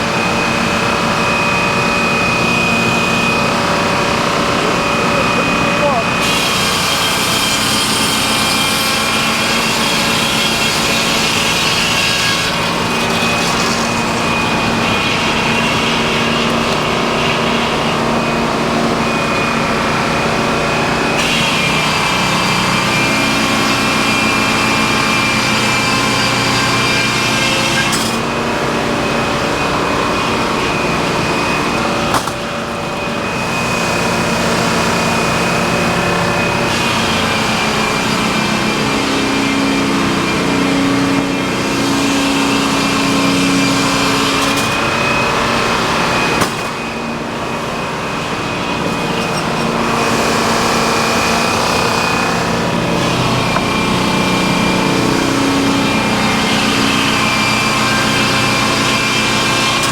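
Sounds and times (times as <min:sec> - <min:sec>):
saw blade whining: 0:00.0 - 0:59.9
sawmill machine drone: 0:00.0 - 0:59.9.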